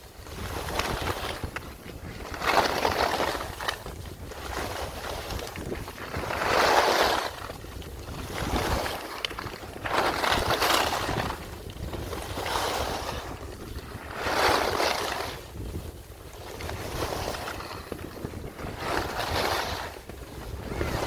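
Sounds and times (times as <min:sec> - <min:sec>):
skis swooshing through snow: 0:00.0 - 0:21.0
wind on microphone: 0:00.0 - 0:21.0.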